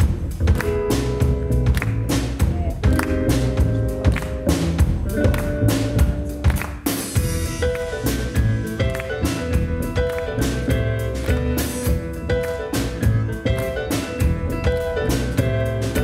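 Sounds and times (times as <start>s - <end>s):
jazz trio playing: 0.0s - 16.0s.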